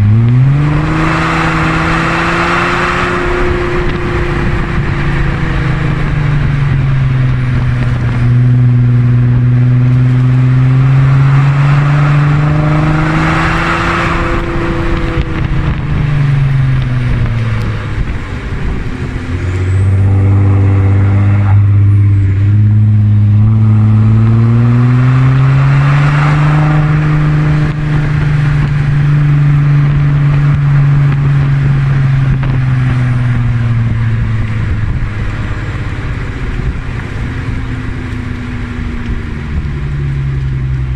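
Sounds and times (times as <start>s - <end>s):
diesel exhaust drone: 0.0s - 40.9s.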